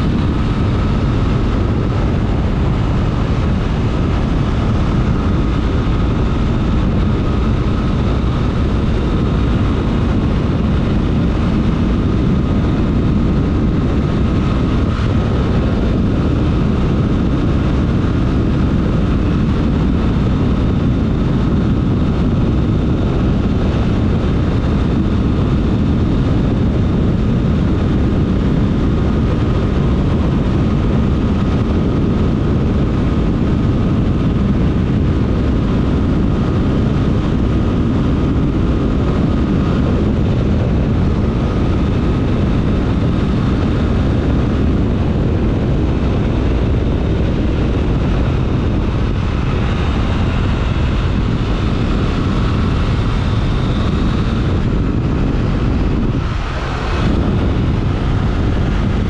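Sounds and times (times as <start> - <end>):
faint steady whine: 0.0 - 59.0
motorcycle engine running steadily: 0.0 - 59.0.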